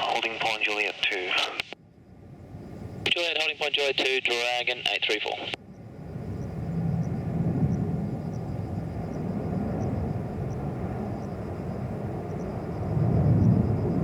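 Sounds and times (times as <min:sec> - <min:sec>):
distant jet engines rumbling: 0:00.0 - 0:14.0.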